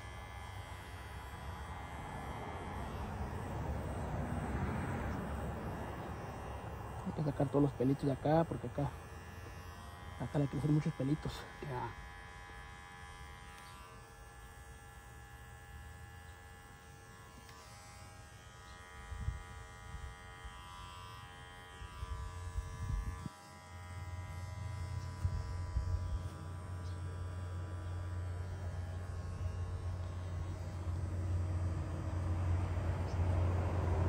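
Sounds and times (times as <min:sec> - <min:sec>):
electric hair clipper buzzing: 0:00.0 - 0:34.0.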